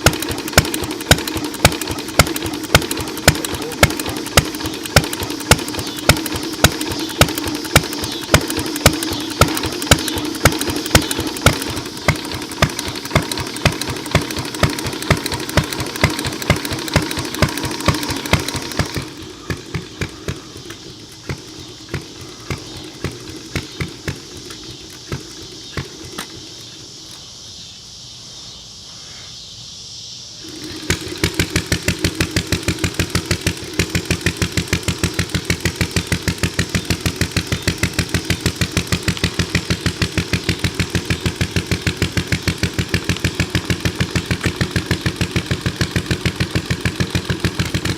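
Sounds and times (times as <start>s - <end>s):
single-cylinder engine exhaust popping: 0.0s - 27.2s, 30.4s - 47.9s.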